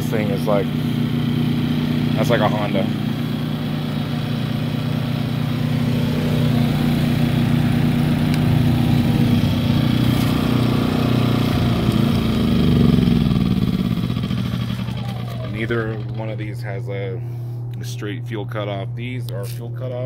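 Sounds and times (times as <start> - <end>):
generators running: 0.0 - 20.0.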